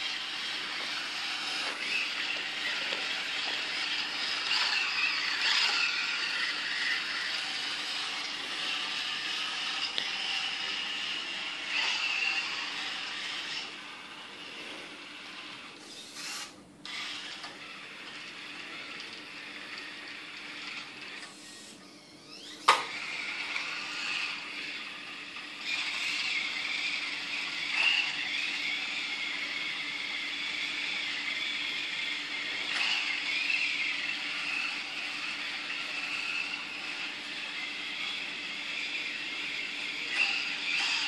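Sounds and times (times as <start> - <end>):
electric motors whining: 0.0 - 41.0.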